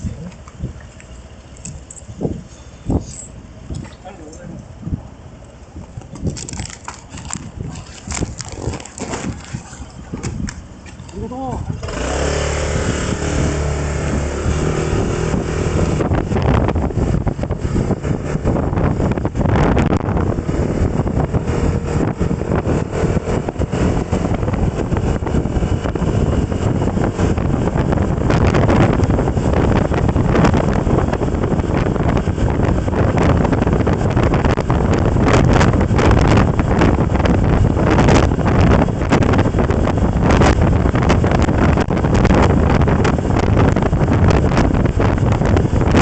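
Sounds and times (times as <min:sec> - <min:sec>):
vehicle engine running: 0:00.0 - 0:46.0
wind buffeting microphone: 0:00.0 - 0:46.0.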